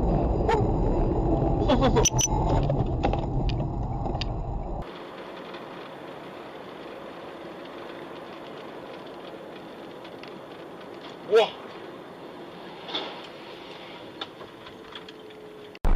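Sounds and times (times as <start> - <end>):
car road and engine rumble: 0.0 - 15.9
traffic hum: 0.0 - 15.9.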